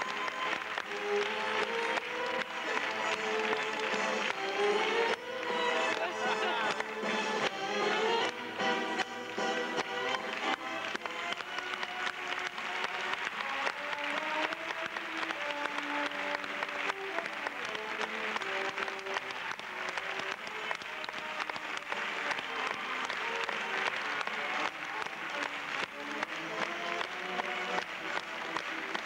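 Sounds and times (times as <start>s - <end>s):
audience applause: 0.0s - 29.0s
stage dance music: 0.0s - 29.0s.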